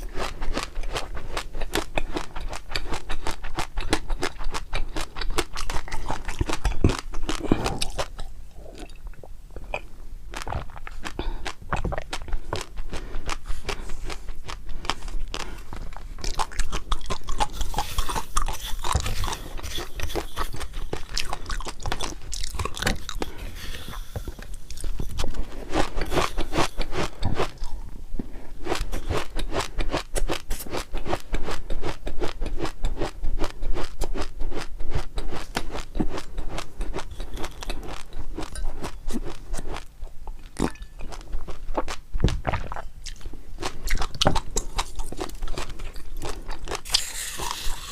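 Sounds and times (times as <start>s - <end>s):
chewing crunchy food: 0.0s - 47.9s.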